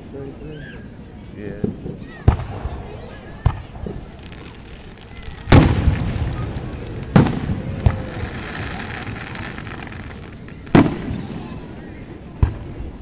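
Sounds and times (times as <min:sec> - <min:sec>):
firework booms: 0:01.6 - 0:13.0
firework crackles: 0:01.6 - 0:13.0.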